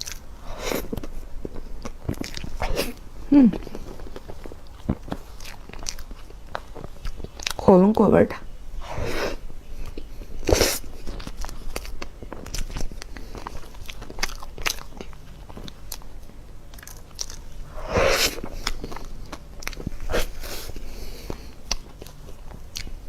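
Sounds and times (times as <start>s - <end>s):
person chewing dessert: 0.0s - 7.6s, 8.5s - 23.0s.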